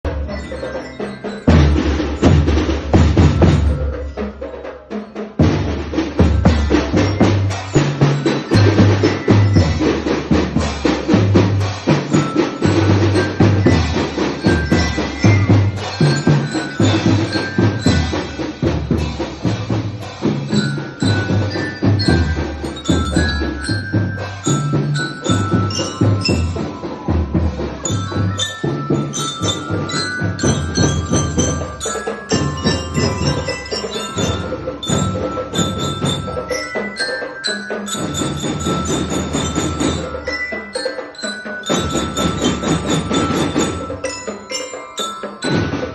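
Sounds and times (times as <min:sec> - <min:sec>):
drum kit playing: 0:00.0 - 0:45.9.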